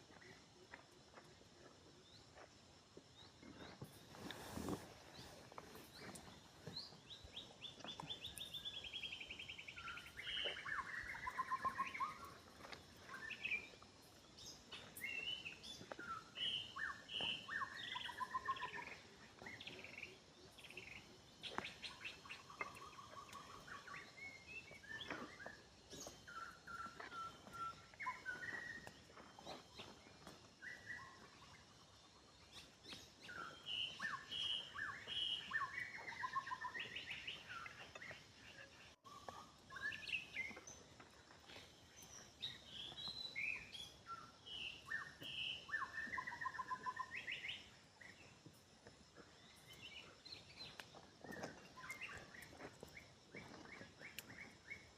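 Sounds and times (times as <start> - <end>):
birds singing and calling: 3.1 - 54.9.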